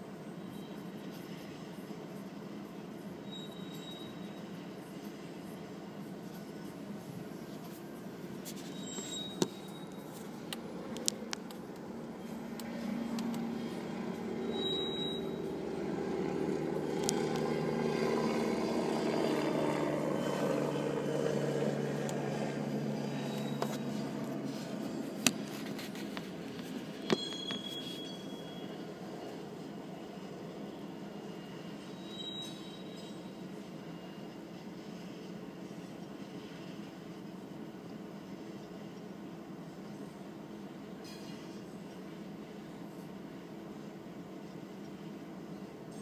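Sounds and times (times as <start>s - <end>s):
train cars rumbling past: 0.0s - 46.0s.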